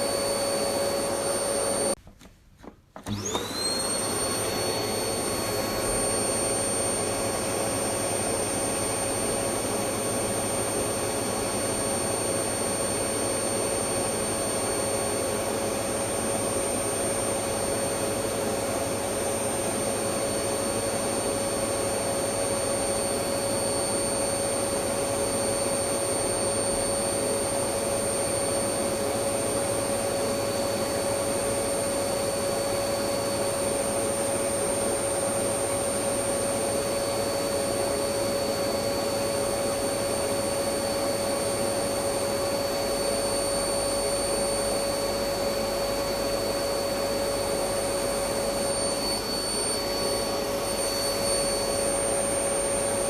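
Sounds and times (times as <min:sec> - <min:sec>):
vacuum cleaner running: 0:00.0 - 0:02.0, 0:03.0 - 0:53.0.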